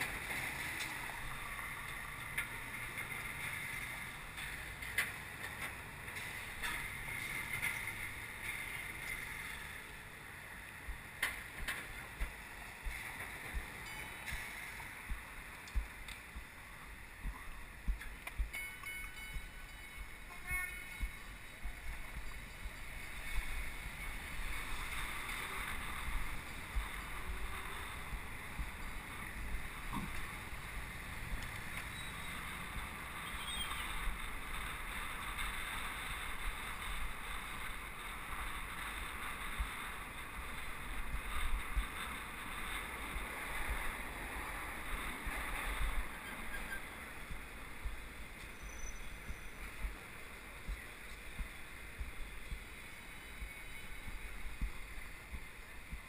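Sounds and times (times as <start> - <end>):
city traffic and tyres hiss: 0.0 - 56.0
wind buffeting microphone: 6.4 - 20.2, 20.9 - 56.0.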